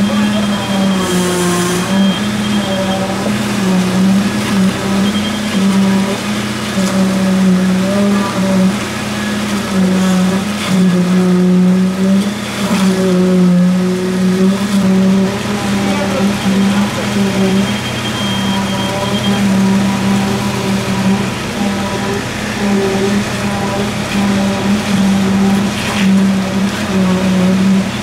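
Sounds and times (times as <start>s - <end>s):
mixer truck engine running fast: 0.0s - 28.0s.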